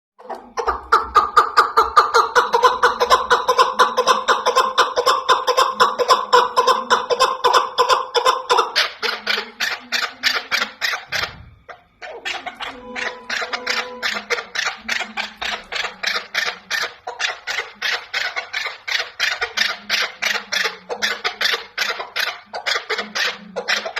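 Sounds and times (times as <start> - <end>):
partridge clucking calls: 0.2 - 23.9.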